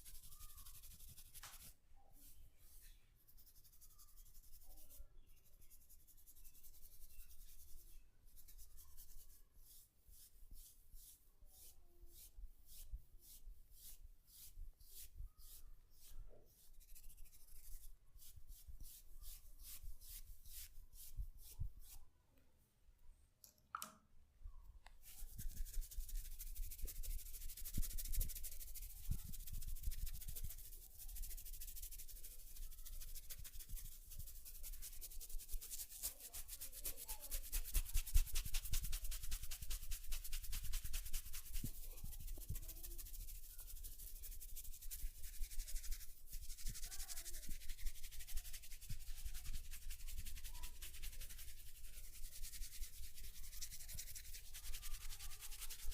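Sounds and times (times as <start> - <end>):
hands rubbing hair and scalp: 0.0 - 1.8, 5.8 - 22.0, 25.0 - 55.9.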